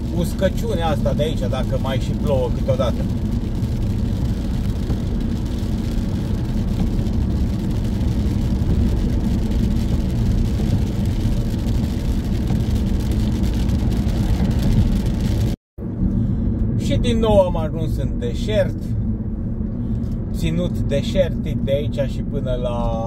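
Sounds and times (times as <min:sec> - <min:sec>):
car engine and tyre noise: 0:00.0 - 0:23.0.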